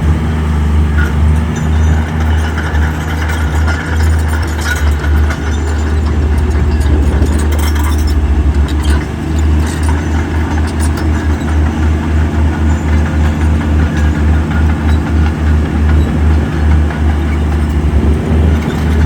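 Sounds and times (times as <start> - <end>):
diesel engine rumbling: 0.0 - 19.0
sharp clanks: 0.9 - 19.0.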